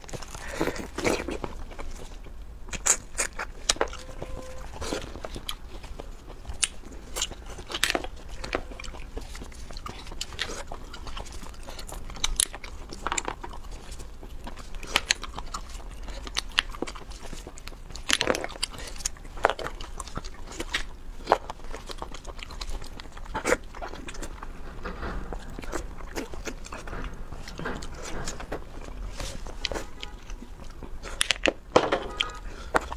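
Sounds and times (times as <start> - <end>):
biting and chewing: 0.0 - 32.9
crawfish shells cracking: 0.0 - 32.9.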